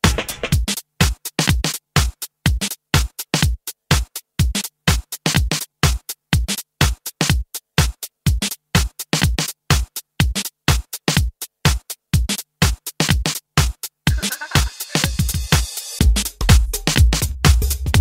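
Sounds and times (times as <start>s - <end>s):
drum machine beat: 0.0s - 18.0s.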